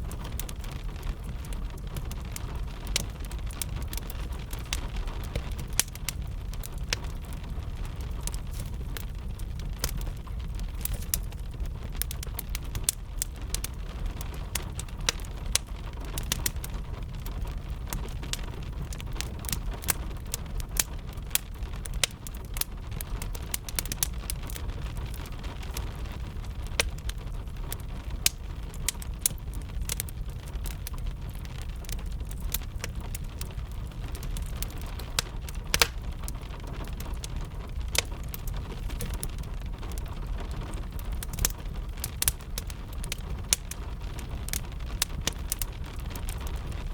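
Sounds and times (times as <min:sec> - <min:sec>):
steady rain: 0:00.0 - 0:46.9
wood fire crackling and popping: 0:00.0 - 0:46.9.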